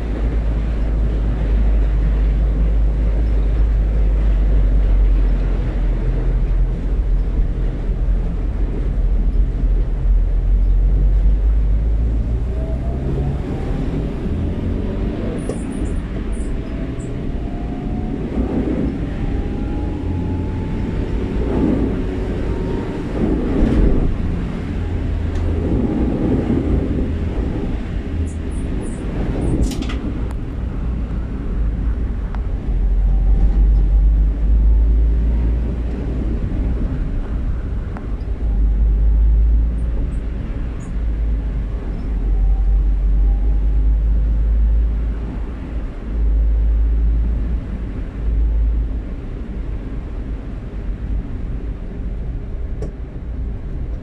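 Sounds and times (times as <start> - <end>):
motor vehicle engine rumbling: 0.0 - 54.0.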